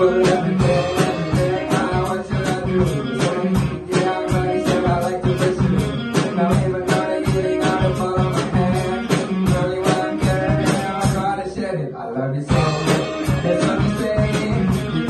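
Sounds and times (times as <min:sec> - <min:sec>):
live rock band playing: 0:00.0 - 0:11.7, 0:12.5 - 0:15.0.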